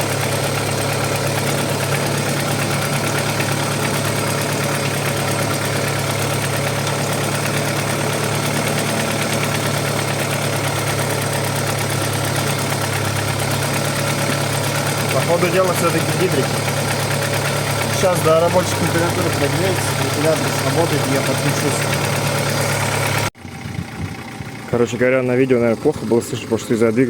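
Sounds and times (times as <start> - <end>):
ticking knock from engine: 0.0 - 26.9
car engine idling: 0.0 - 27.0.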